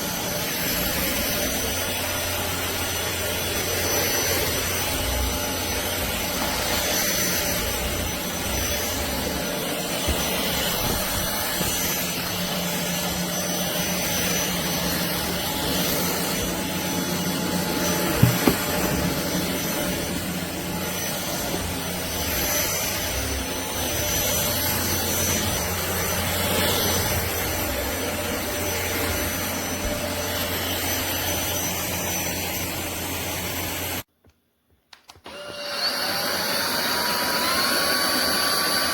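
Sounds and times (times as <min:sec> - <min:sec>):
stick vacuum running: 0:00.0 - 0:34.0, 0:34.9 - 0:38.9.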